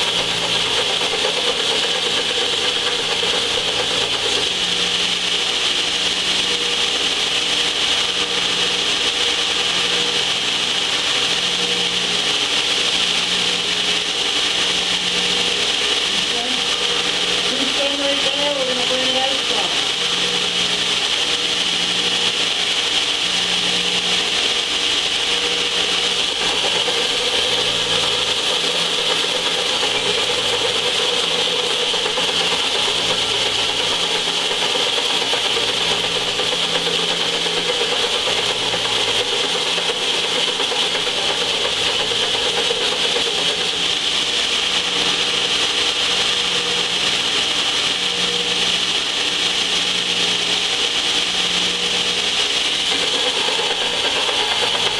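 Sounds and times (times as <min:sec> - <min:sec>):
belt sander grinding metal: 0:00.0 - 0:54.9.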